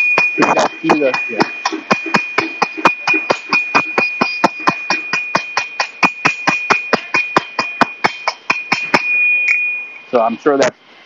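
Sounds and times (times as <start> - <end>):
hammer striking sheet metal: 0.0 - 9.7
high metallic ring: 0.0 - 10.4.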